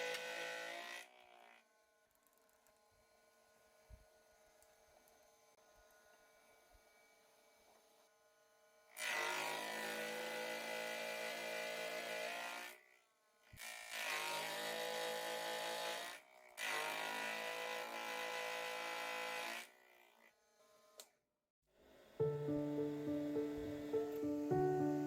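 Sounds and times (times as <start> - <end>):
power tool motor rasping: 0.0 - 21.2.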